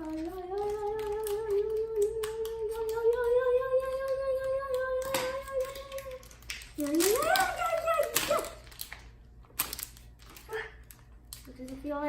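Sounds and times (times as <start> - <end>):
scissors cutting plastic: 0.0 - 11.9.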